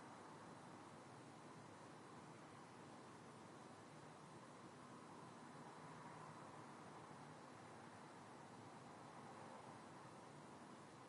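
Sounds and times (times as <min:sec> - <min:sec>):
faint city night ambience: 0:00.0 - 0:11.0.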